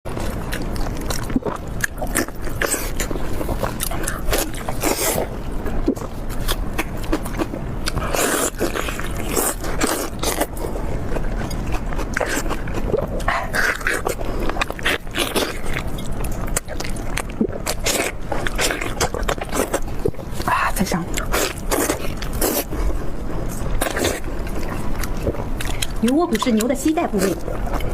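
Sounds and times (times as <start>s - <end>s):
person chewing meat: 0.1s - 27.9s.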